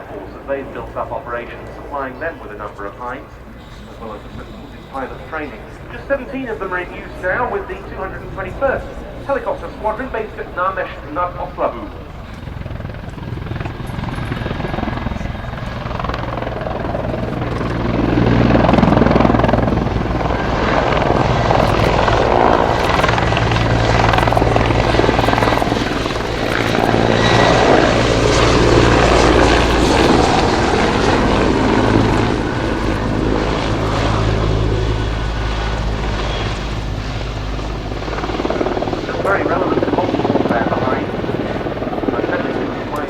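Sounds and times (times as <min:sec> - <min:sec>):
helicopter engine and rotor roar: 0:00.0 - 0:43.0.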